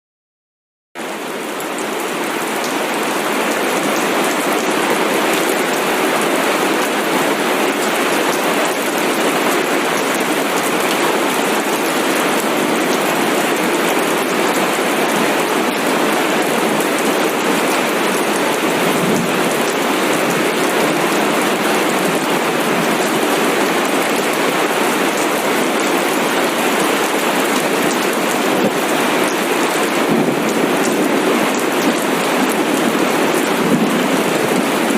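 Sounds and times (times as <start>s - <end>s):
heavy rain falling: 1.0s - 34.9s.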